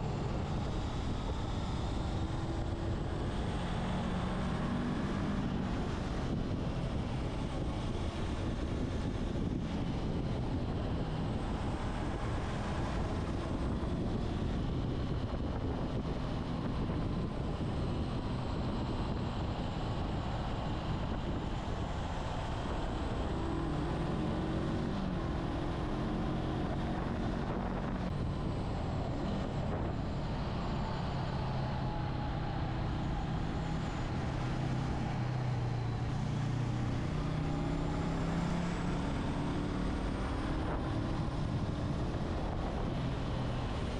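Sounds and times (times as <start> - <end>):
wind noise: 0.0 - 43.9.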